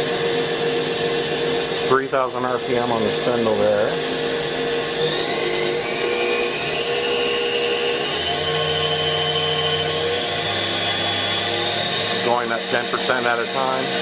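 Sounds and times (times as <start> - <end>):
machine spindle whine: 0.0 - 14.0.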